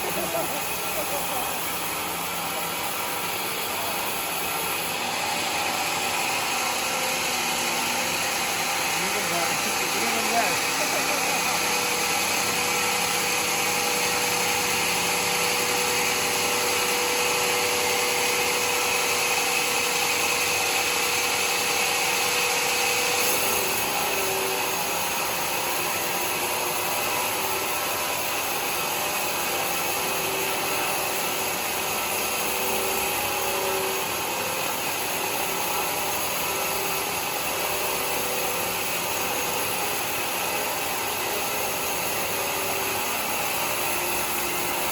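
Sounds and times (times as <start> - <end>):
sawmill sawing wood: 0.0 - 44.9.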